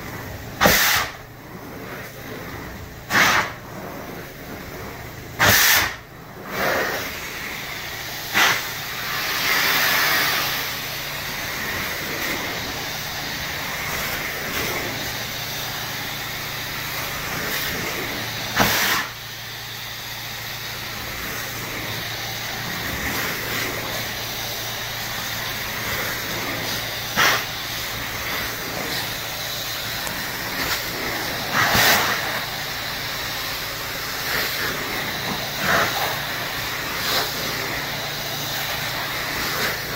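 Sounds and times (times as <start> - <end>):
carpet extraction wand hissing: 0.1 - 39.9.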